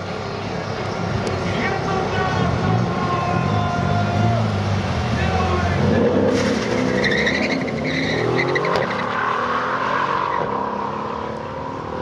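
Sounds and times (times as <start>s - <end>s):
cars accelerating hard: 0.2s - 12.0s.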